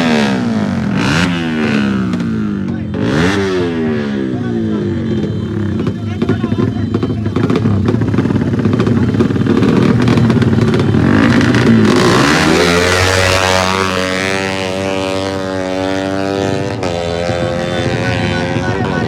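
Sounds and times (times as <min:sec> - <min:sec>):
racing motorcycle engine revving: 0:00.0 - 0:19.0.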